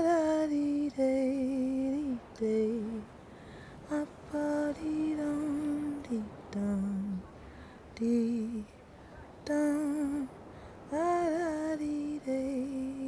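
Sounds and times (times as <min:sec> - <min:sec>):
woman singing wordless tune: 0:00.0 - 0:13.0.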